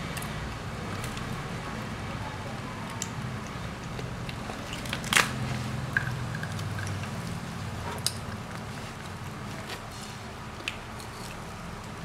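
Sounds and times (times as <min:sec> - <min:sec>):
handling and eating noises: 0:00.0 - 0:12.0.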